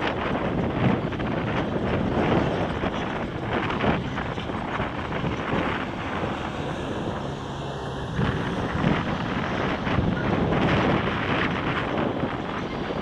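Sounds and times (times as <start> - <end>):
tractor diesel engine running: 0.0 - 13.0
wind buffeting microphone: 0.0 - 13.0.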